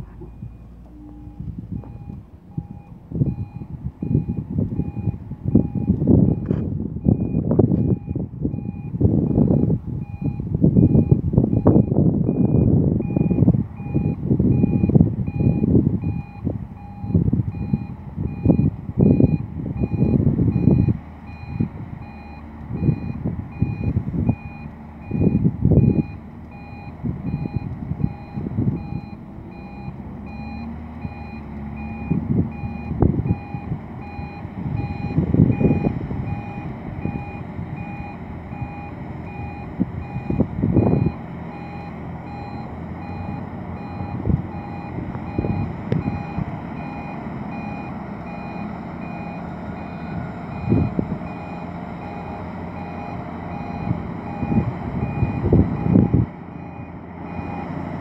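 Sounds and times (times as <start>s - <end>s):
back-up alarm beeping: 0.0s - 57.8s
diesel engine rumbling: 0.0s - 58.0s.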